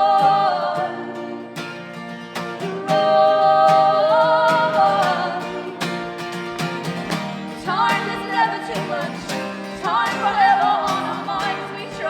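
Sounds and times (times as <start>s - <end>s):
strummed guitar: 0.0s - 12.0s
voices singing in harmony: 0.0s - 12.0s.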